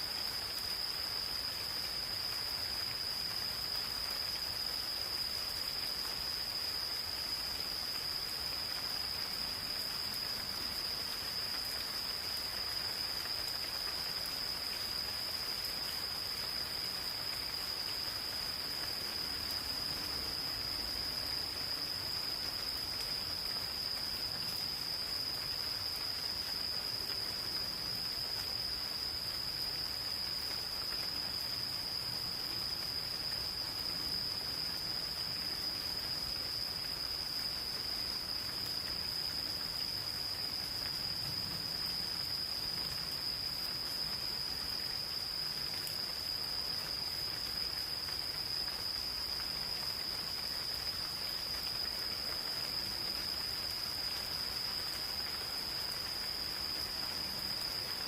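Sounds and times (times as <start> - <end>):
gentle rain patter: 0.0 - 58.0
insects trilling: 0.0 - 58.0.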